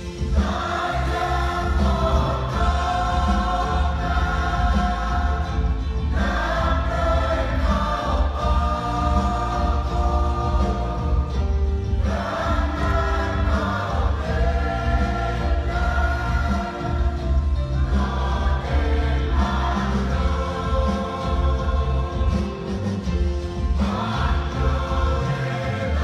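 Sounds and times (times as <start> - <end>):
choir singing a hymn: 0.0 - 26.0
steady low bass: 0.0 - 26.0.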